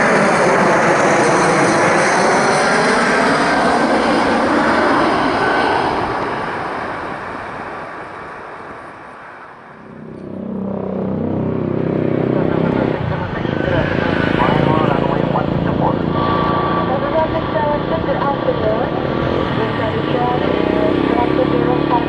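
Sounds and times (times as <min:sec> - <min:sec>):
jet airliner roaring past: 0:00.0 - 0:22.0.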